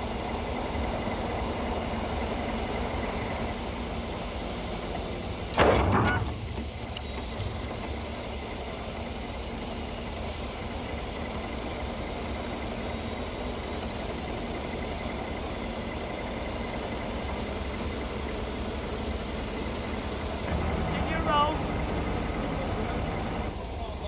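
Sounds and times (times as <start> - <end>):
crane engine running: 0.0 - 24.0.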